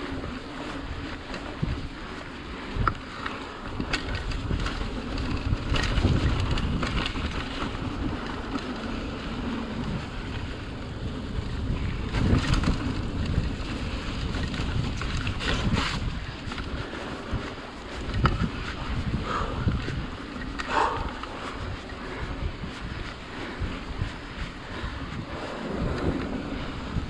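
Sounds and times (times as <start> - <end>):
bike clicks and rattles: 0.0 - 27.0
tyres rolling on dirt: 0.0 - 27.0
wind on microphone: 0.0 - 27.0.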